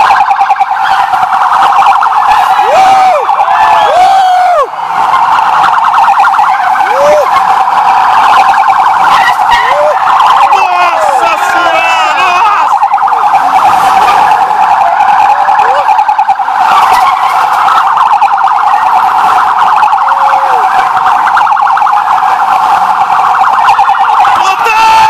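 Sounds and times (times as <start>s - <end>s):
sirens wailing: 0.0s - 25.0s
sirens yelping: 0.0s - 25.0s.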